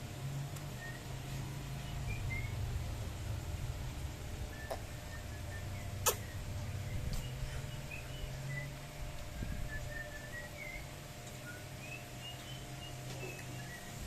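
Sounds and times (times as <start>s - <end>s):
steady low hum: 0.0s - 14.0s
small birds chirping: 0.6s - 14.0s.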